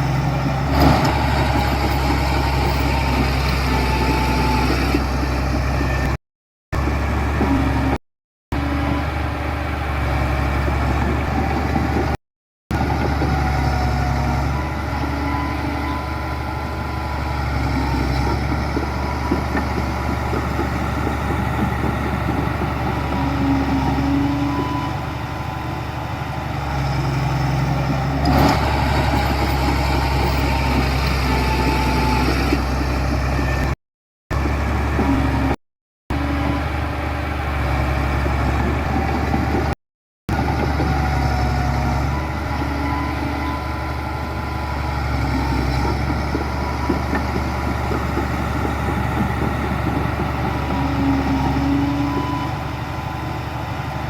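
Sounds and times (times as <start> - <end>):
diesel machinery engine drone: 0.0 - 6.2, 6.8 - 54.0.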